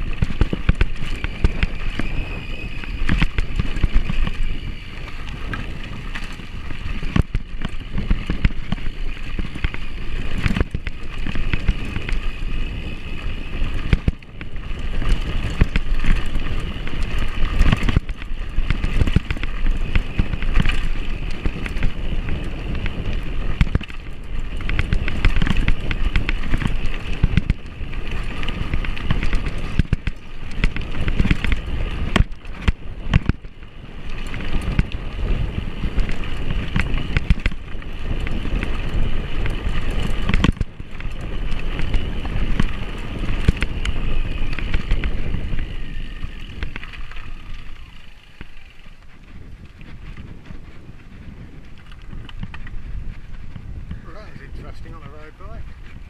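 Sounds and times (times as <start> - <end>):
bike rattling over bumps: 0.0 - 56.0
bike tyres rumbling on gravel: 0.0 - 56.0.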